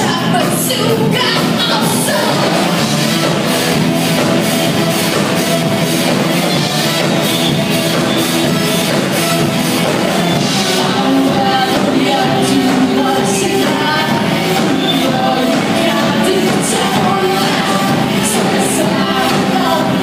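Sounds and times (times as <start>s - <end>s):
bass guitar: 0.0s - 20.0s
drum kit with cymbal beat: 0.0s - 20.0s
electric guitars: 0.0s - 20.0s.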